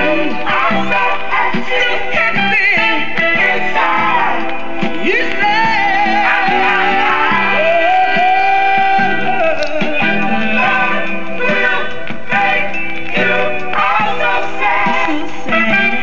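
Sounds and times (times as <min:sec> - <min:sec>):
soul band with held vocals: 0:00.0 - 0:16.0.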